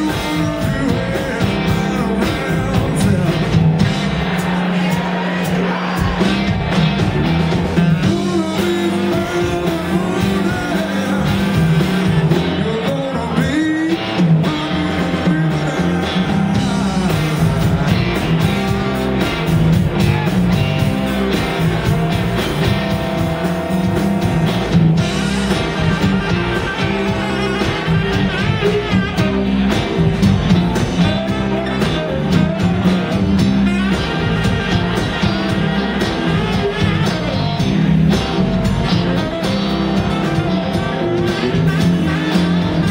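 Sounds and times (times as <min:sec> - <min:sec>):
drum kit: 0:00.0 - 0:42.9
electric guitar: 0:00.0 - 0:42.9
keyboard: 0:00.0 - 0:42.9
saxophone: 0:07.6 - 0:42.9.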